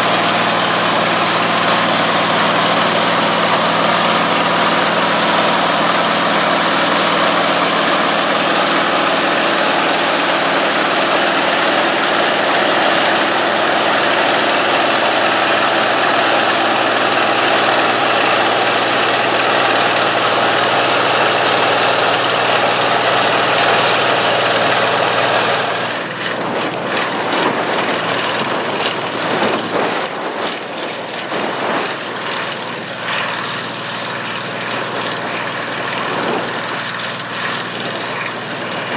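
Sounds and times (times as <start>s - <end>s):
combine engine and threshing machinery: 0.0s - 38.9s.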